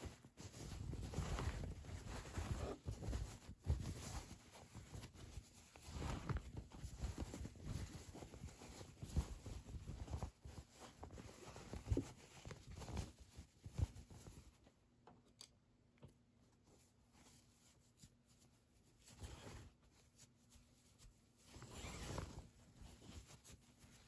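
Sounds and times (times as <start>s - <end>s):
fabric rustling: 0.0s - 14.6s, 16.6s - 24.0s.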